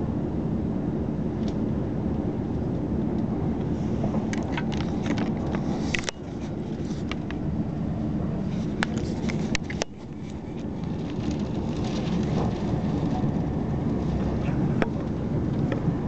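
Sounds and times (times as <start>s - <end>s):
train wheels rumbling on rails: 2.5s - 16.0s.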